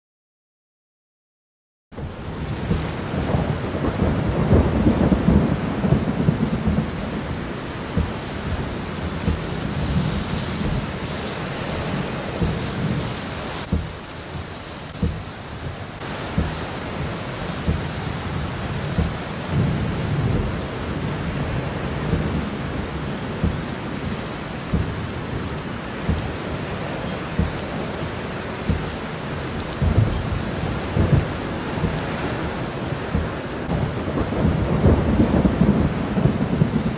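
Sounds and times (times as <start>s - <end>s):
heavy rain on car roof: 1.9s - 36.9s.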